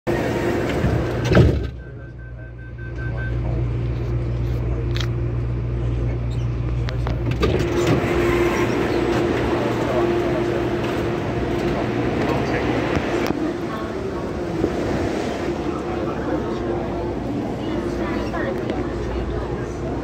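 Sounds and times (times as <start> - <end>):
train hum and rumble: 0.1 - 20.0.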